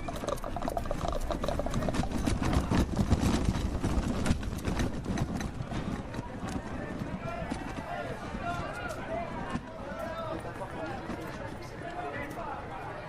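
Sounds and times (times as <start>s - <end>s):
horse hooves on hard street: 0.0s - 12.4s.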